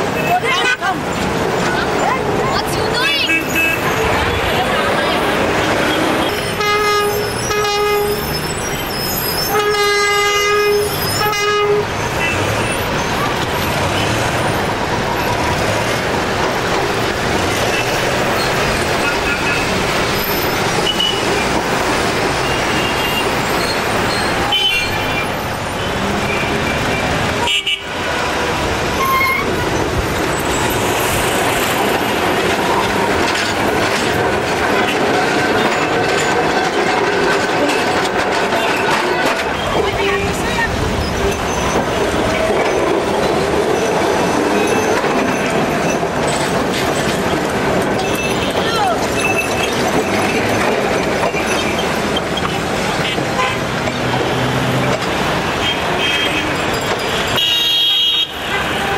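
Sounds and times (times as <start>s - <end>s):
city traffic noise: 0.0s - 58.9s
tram rolling past: 0.0s - 58.9s.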